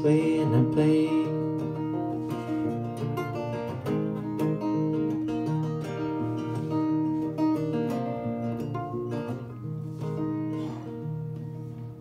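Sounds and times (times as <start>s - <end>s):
acoustic guitar picking and strumming: 0.0s - 12.0s.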